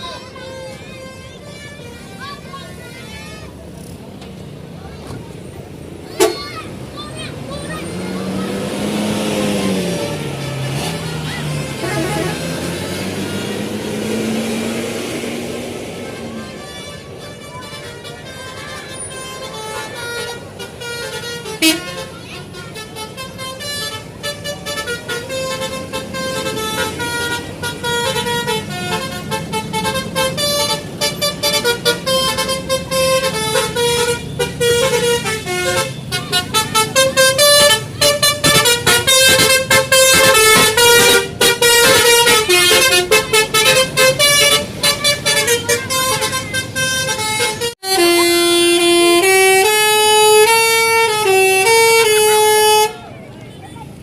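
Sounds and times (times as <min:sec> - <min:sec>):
bus multi-tone horn melody: 0:00.0 - 0:03.5, 0:06.0 - 0:54.0.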